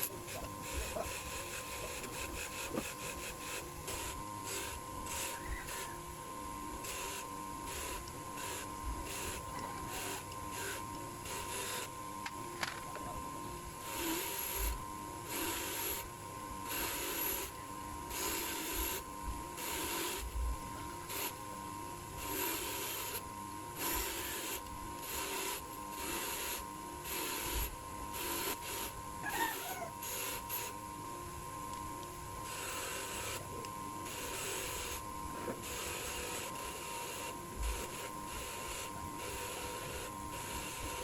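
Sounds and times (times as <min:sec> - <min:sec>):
hand rasping strokes: 0:00.0 - 0:06.1, 0:06.7 - 0:12.0, 0:13.8 - 0:21.4, 0:22.2 - 0:23.2, 0:23.8 - 0:30.8, 0:32.4 - 0:41.0.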